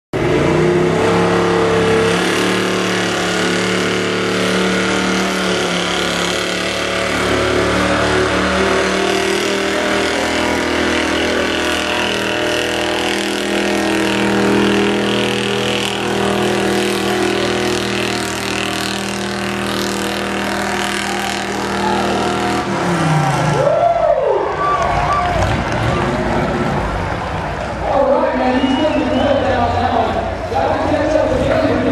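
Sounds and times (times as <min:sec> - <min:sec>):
truck engine running at high revs: 0:00.1 - 0:31.9.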